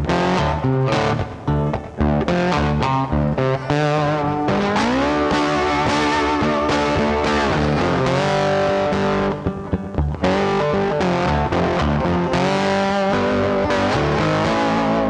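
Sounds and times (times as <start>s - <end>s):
distorted electric guitar music: 0.0s - 15.0s.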